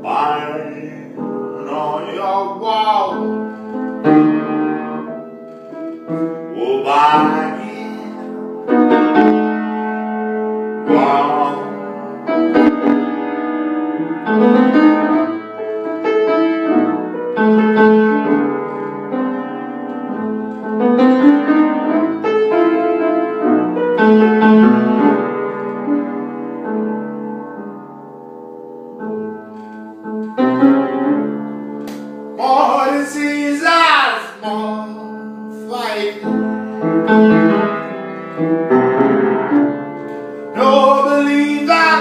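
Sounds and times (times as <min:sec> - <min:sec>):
jazzy blues piano: 0:00.0 - 0:42.0.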